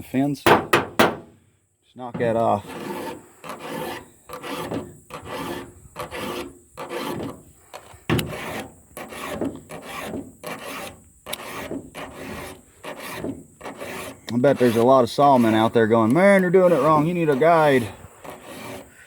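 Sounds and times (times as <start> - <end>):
file rasping on chainsaw chain: 2.2 - 19.0.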